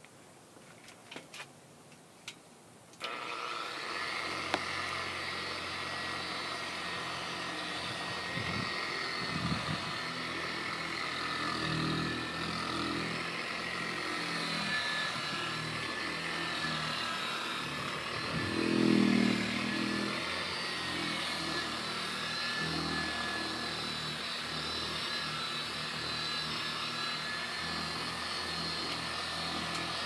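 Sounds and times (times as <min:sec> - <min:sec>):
electric buffer running: 0:03.0 - 0:30.0.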